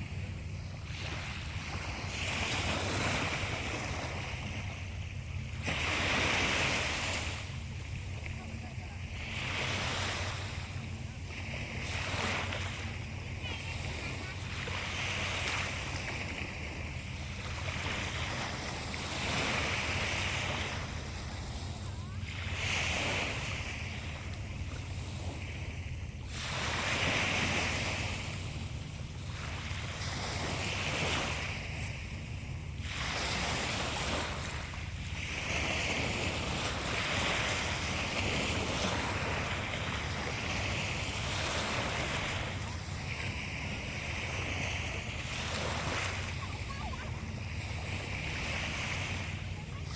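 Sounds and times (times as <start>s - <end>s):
sea waves breaking: 0.0s - 49.9s.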